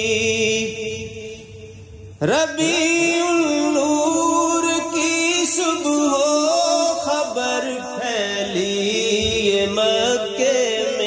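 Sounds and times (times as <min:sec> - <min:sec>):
person singing devotional song: 0:00.0 - 0:11.0.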